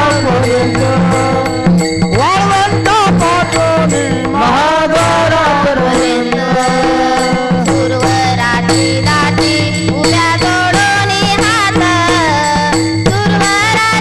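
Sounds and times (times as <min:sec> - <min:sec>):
person singing ornamented melody: 0:00.0 - 0:14.0
regular drum beat: 0:00.0 - 0:14.0.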